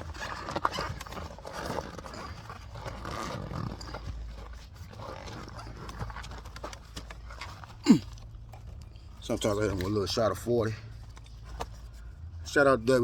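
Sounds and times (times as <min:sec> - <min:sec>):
rubber tire rubbing and scuffing: 0:00.0 - 0:13.0.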